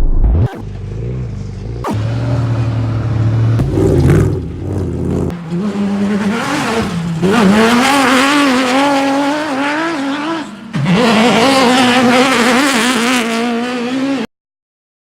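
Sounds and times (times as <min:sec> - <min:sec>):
race vehicle engine revving high: 0:00.6 - 0:14.3.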